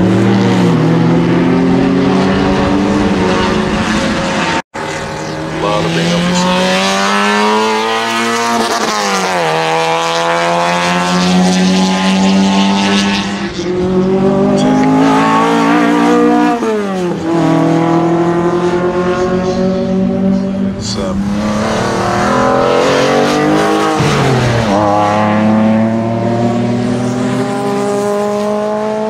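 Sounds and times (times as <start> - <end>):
race car engines accelerating: 0.0 - 29.0.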